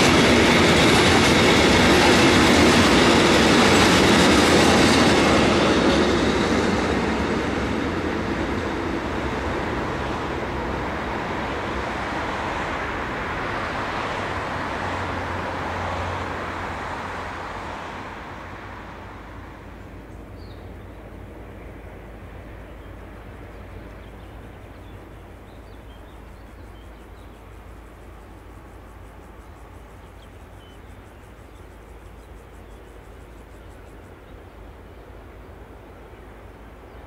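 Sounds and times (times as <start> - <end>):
train rolling away: 0.0 - 37.0.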